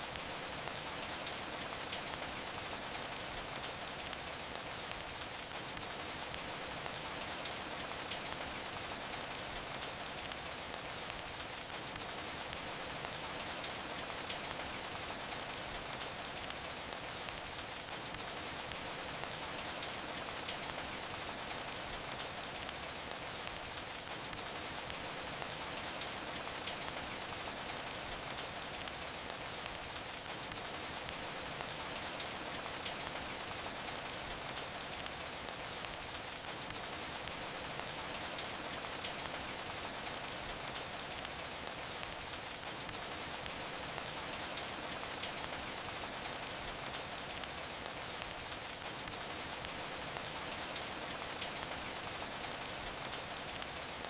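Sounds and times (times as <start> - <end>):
steady rain falling: 0.0 - 54.0
wood fire crackling: 0.0 - 54.0.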